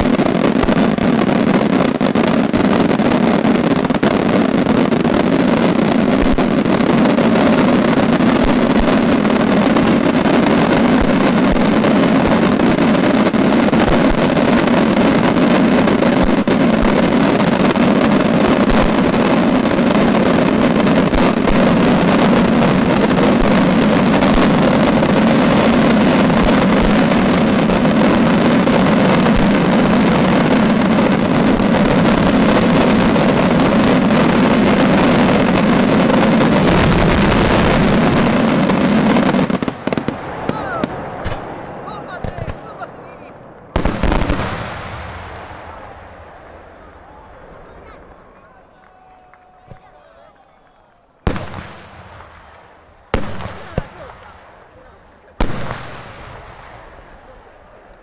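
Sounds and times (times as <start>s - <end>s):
fireworks barrage rumbling: 0.0s - 58.0s.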